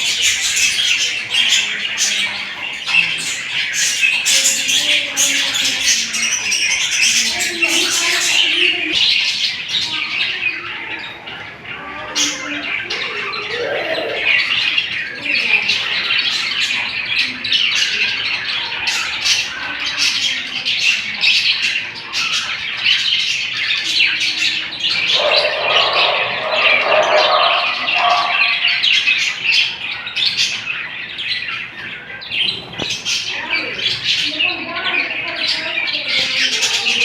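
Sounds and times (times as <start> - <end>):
budgerigars chirping: 0.0 - 37.0.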